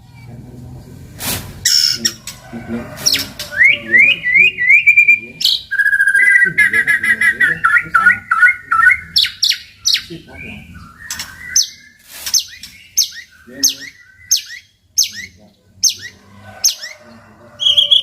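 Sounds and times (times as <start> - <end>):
bird singing varied song: 1.7 - 18.0.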